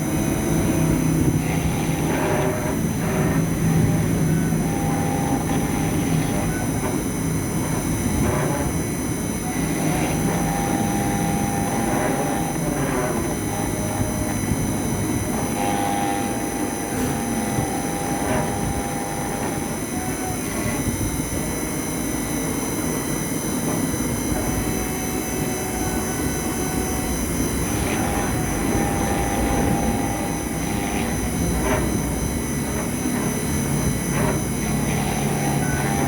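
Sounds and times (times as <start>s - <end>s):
engraving spindle whining: 0.0s - 21.1s, 23.6s - 36.0s.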